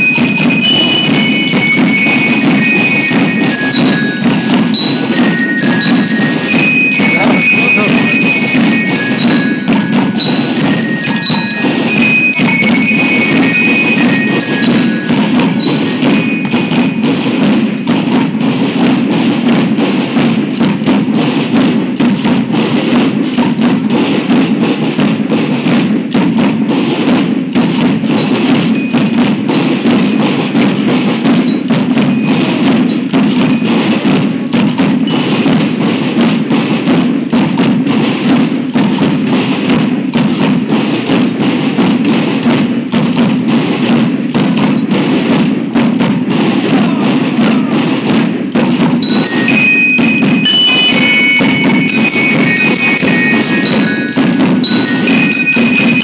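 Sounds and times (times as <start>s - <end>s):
bell lyres playing melody: 0.0s - 19.8s, 27.6s - 46.4s, 47.0s - 56.0s
rapid marching band drumming: 0.0s - 56.0s.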